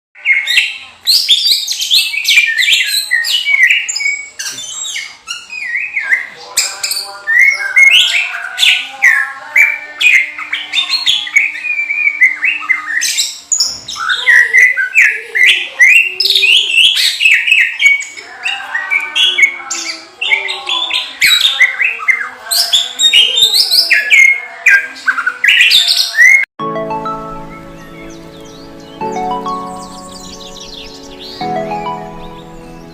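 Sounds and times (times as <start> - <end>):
bird singing chirps and whistles: 0.2 - 26.5, 27.5 - 32.9.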